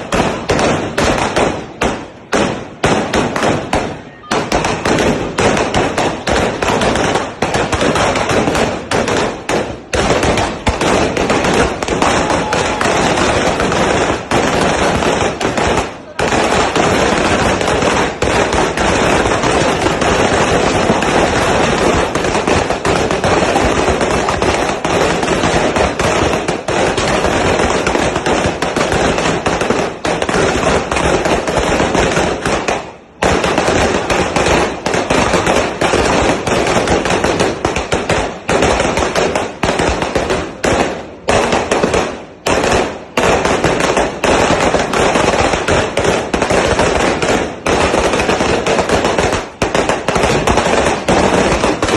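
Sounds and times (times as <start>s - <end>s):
firecracker string crackling: 0.0s - 51.9s.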